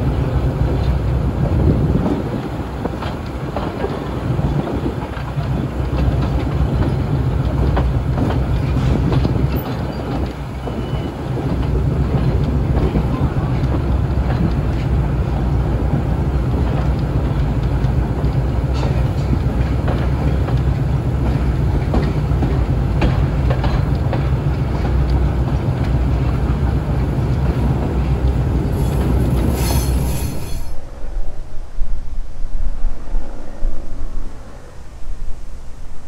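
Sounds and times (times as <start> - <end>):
diesel locomotive engine drone: 0.0 - 36.0
wind noise on microphone: 0.0 - 36.0
wheels clicking over rail joints: 0.2 - 30.1.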